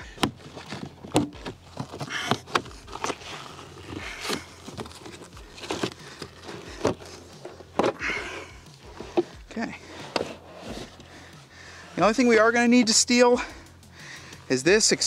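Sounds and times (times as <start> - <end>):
carpet rustling and scraping: 0.0 - 13.3.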